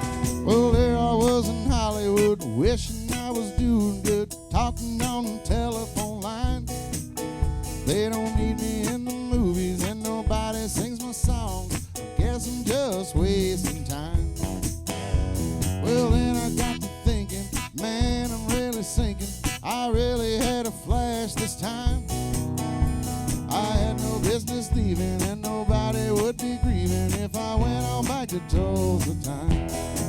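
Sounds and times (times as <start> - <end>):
live country band: 0.0 - 30.0.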